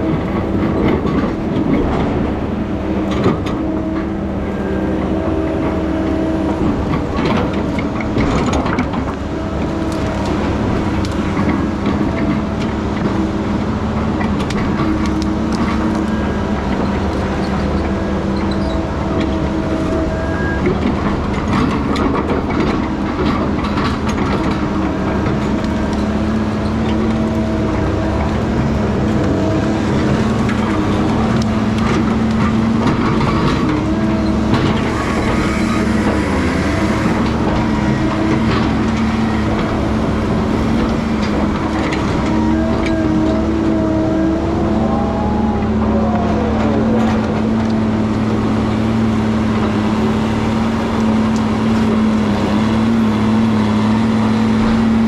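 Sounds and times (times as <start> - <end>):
heavy diesel machine running: 0.0 - 55.0.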